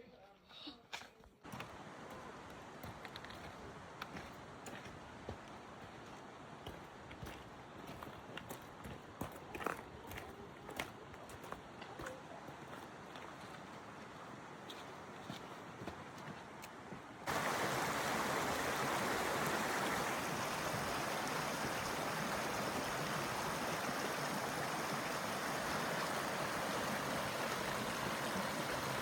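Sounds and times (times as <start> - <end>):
creek water rushing: 1.4 - 29.0.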